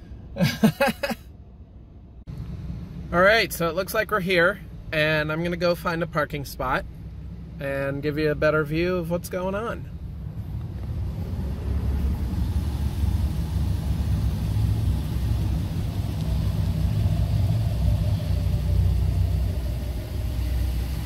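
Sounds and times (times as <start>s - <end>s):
car driving rumble from inside: 1.5s - 21.0s.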